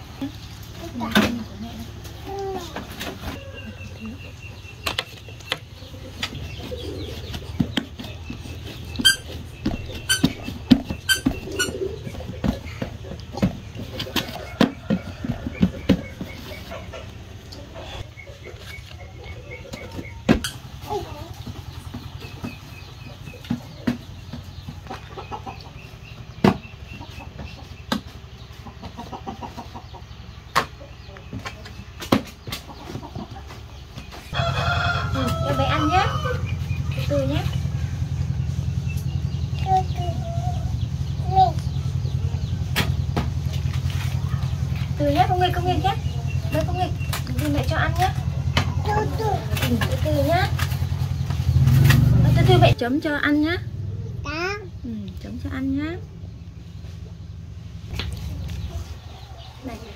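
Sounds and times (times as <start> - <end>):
chickens clucking: 0.0 - 54.4, 55.1 - 59.9
bird chirping: 3.4 - 59.9.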